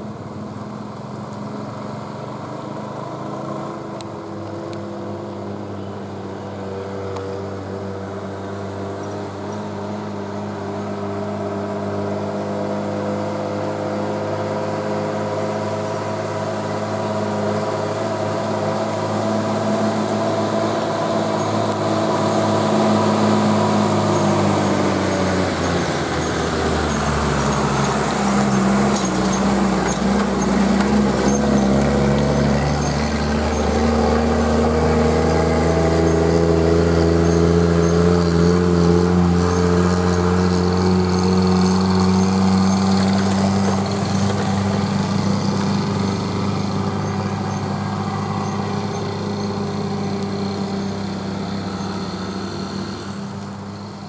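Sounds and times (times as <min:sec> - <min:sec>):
truck diesel engine: 0:00.0 - 0:54.0.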